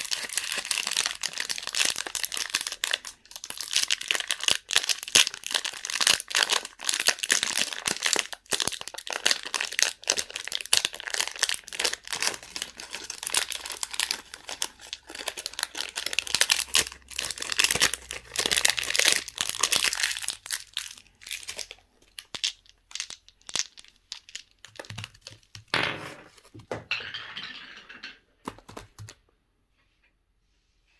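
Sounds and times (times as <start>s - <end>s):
candy wrappers crinkling and tearing: 0.0s - 25.7s.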